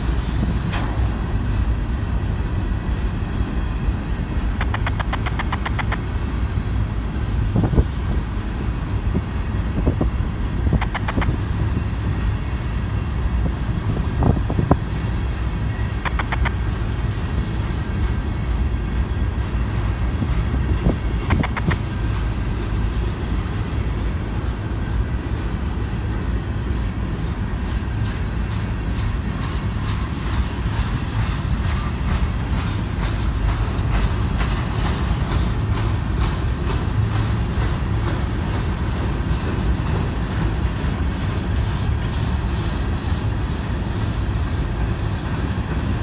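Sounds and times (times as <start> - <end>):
freight train rumbling: 0.0 - 46.0
wheels clicking over rail joints: 0.0 - 46.0.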